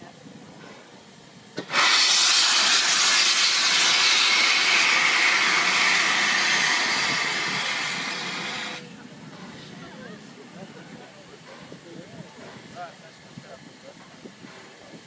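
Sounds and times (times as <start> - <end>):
steam locomotive venting steam: 0.0 - 15.0.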